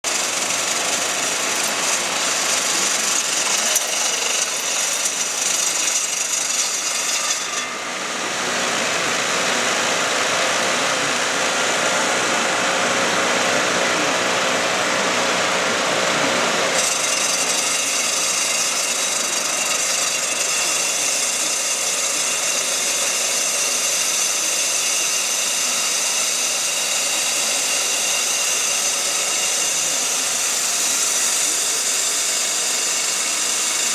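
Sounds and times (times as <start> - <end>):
core drill running: 0.0 - 33.9.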